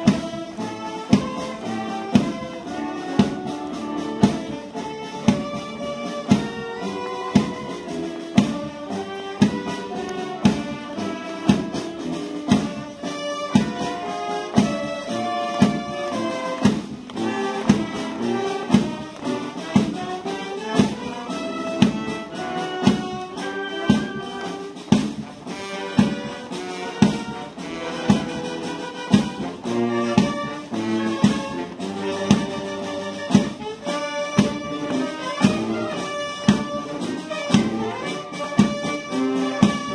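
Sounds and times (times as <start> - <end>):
brass band music: 0.0 - 39.9.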